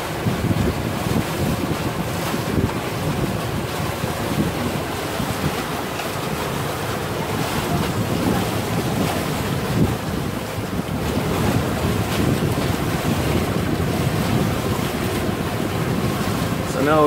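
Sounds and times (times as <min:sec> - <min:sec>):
water rushing past boat hull: 0:00.0 - 0:17.0
wind buffeting microphone: 0:00.0 - 0:17.0.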